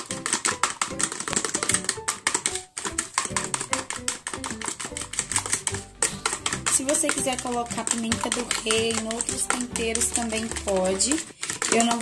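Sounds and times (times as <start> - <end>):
background music: 0.0 - 12.0
fork beating eggs in container: 0.0 - 12.0.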